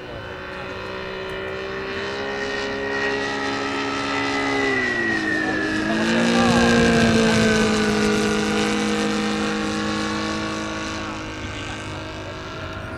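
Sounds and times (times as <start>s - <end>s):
model plane engine drone: 0.0s - 12.9s.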